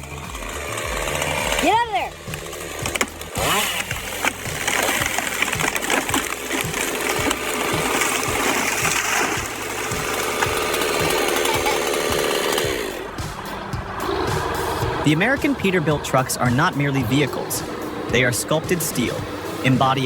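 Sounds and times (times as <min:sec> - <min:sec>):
machinery clattering and knocking: 0:00.0 - 0:20.0.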